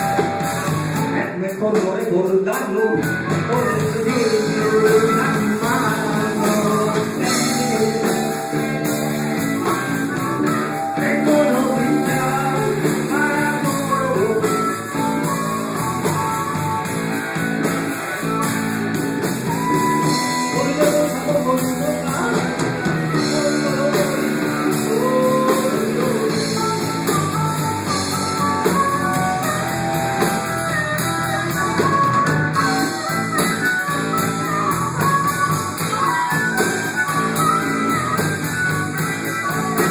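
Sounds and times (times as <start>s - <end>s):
live band instrumental music: 0.0s - 39.9s.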